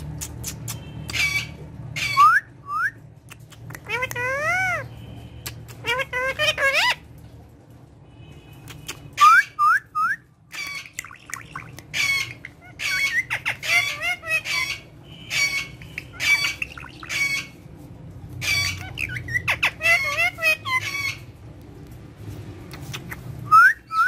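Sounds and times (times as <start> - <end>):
parakeet squawking and whistling: 0.1 - 3.0, 3.6 - 7.1, 8.7 - 17.6, 18.4 - 21.3, 22.8 - 24.0.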